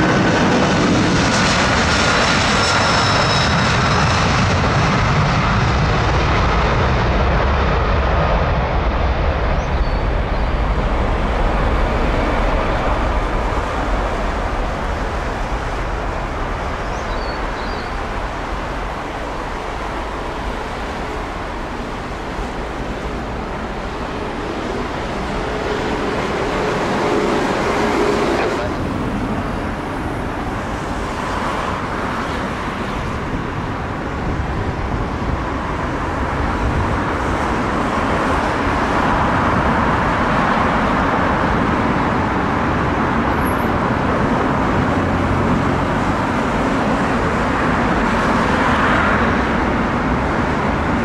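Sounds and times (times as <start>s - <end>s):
high engine whine: 0.0s - 51.0s
jet engines roaring: 0.0s - 51.0s.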